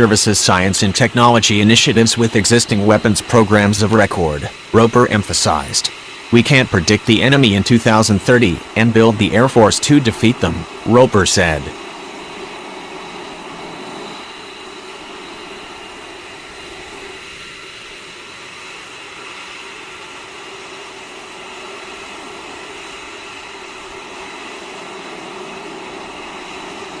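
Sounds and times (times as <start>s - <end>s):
jet engine hum and whine: 0.0s - 27.0s.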